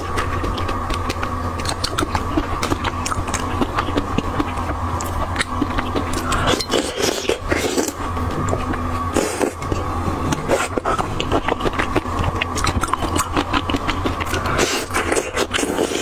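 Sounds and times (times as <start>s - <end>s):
person chewing crunchy shell: 0.0s - 16.0s
steady electrical hum: 0.0s - 16.0s.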